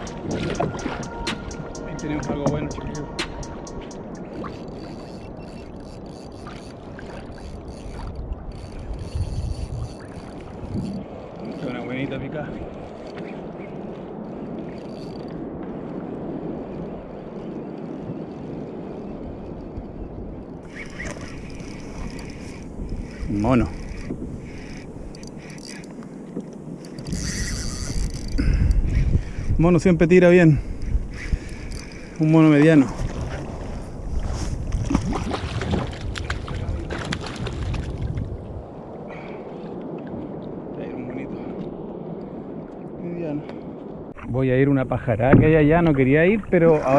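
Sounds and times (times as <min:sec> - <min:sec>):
water washing around kayak: 0:00.0 - 0:03.1, 0:04.2 - 0:44.3, 0:45.1 - 0:46.9
wind noise on microphone: 0:00.0 - 0:46.9.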